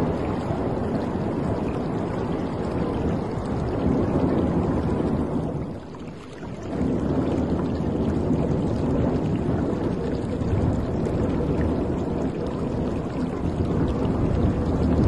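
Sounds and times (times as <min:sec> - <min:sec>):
sea water rushing against hull: 0:00.0 - 0:15.0.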